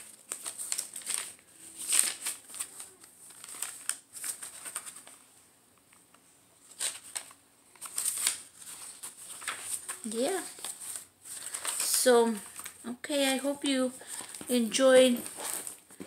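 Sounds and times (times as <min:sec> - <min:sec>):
paper rustling and crinkling: 0:00.0 - 0:05.3, 0:06.6 - 0:16.0.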